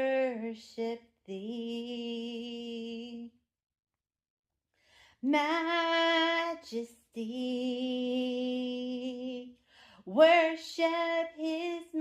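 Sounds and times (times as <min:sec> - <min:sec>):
woman singing a hymn: 0:00.0 - 0:03.3, 0:05.2 - 0:12.0.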